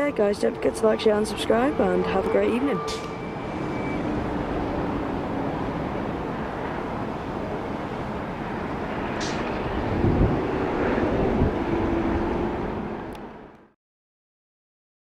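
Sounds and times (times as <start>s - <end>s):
jet aircraft rumble: 0.0s - 13.6s.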